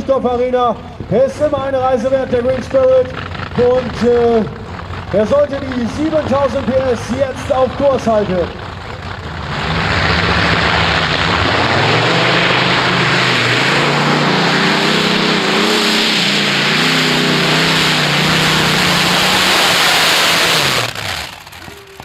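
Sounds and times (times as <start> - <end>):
loud aero engines droning: 0.0 - 22.0.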